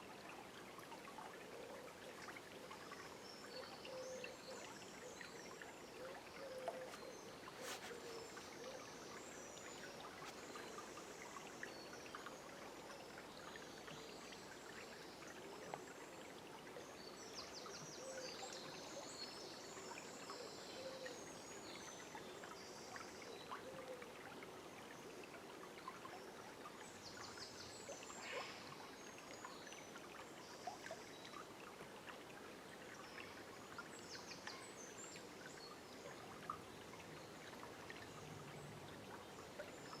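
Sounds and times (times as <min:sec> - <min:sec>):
river flowing: 0:00.0 - 0:19.0, 0:23.9 - 0:40.0.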